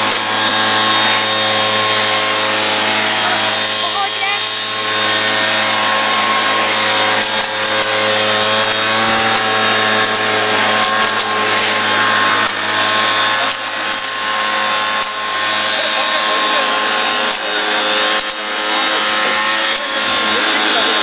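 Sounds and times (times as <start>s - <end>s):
cotton picker motor: 0.0s - 21.0s.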